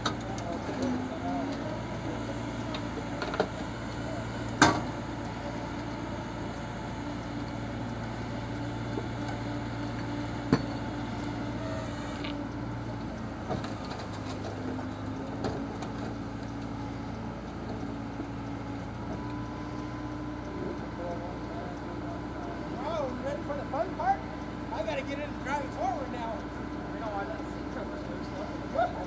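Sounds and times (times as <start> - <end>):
truck engine and winch humming: 0.0 - 29.0.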